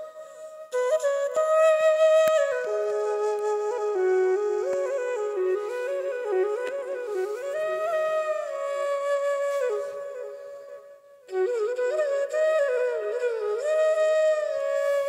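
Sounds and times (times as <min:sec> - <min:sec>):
solo flute melody: 0:00.0 - 0:15.0.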